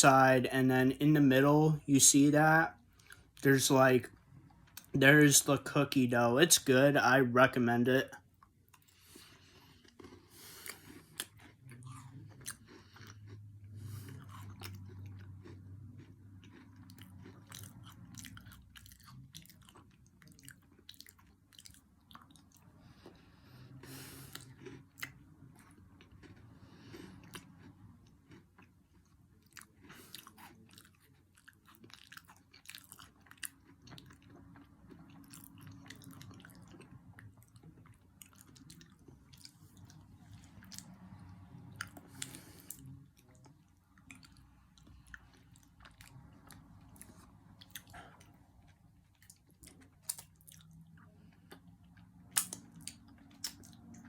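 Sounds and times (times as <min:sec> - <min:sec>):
person chewing with crunches: 0:00.0 - 0:04.9, 0:07.6 - 0:54.0.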